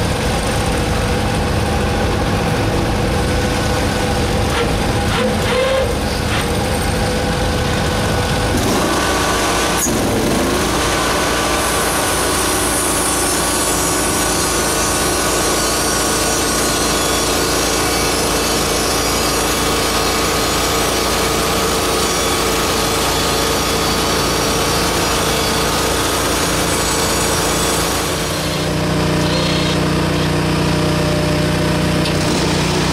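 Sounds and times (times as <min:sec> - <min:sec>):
small petrol engine running: 0:00.0 - 0:32.9
saw blade cutting wood: 0:03.6 - 0:07.4, 0:08.4 - 0:32.9.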